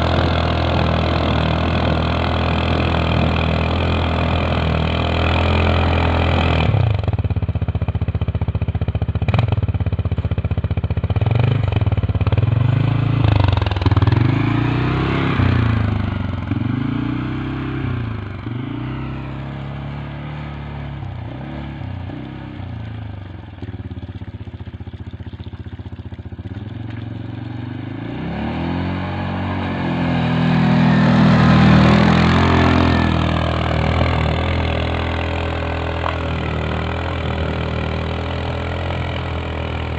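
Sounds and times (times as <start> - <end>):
tyres churning through snow: 0.0 - 7.2, 10.9 - 39.9
quad bike engine revving: 0.0 - 39.9.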